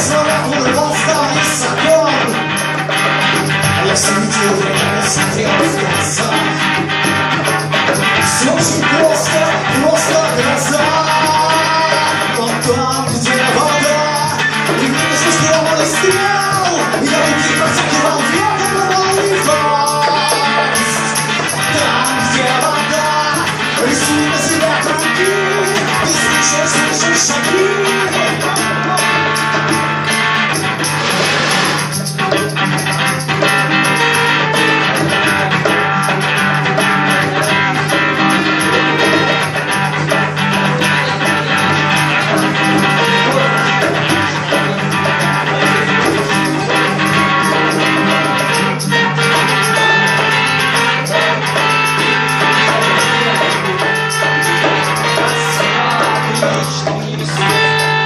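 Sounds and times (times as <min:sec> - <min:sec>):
guitar-led rock music: 0:00.0 - 0:58.0.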